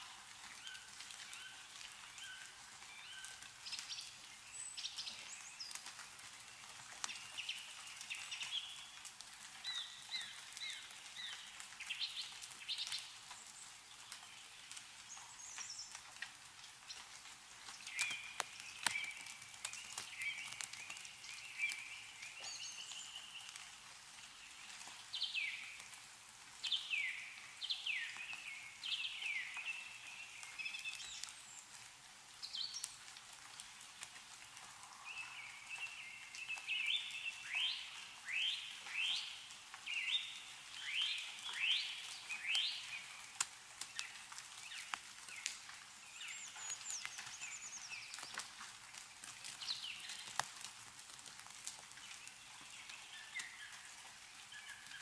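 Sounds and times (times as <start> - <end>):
songbirds singing and calling: 0.0 - 33.1, 34.6 - 50.7, 51.7 - 55.0
meltwater dripping: 0.0 - 55.0.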